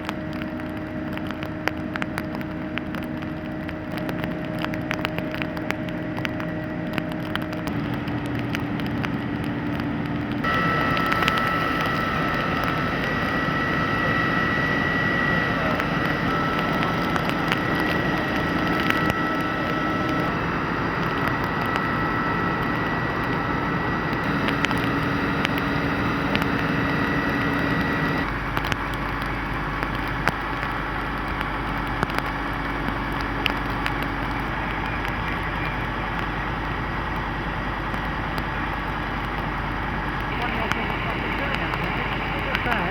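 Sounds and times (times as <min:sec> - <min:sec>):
crackles: 0:00.0 - 0:42.9
fire engines running: 0:00.0 - 0:42.9.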